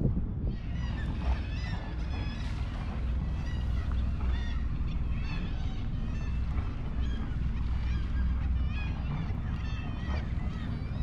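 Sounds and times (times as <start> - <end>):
low steady rumble: 0.0 - 11.0
gulls calling: 0.4 - 11.0.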